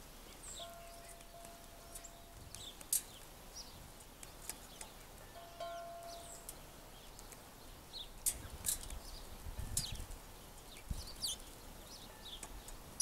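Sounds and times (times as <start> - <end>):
small birds chip calls: 0.2 - 13.0.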